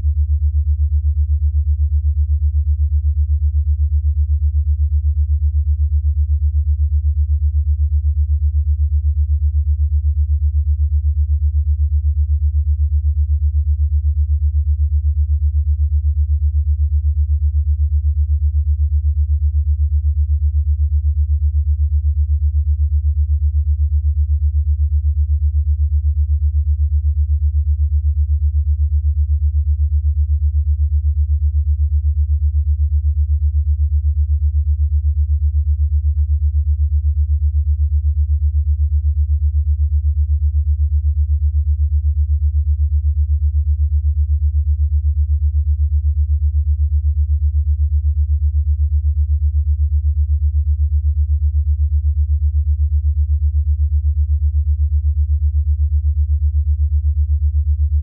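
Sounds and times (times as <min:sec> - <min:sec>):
pulsing low sine tone: 0:00.0 - 0:58.0.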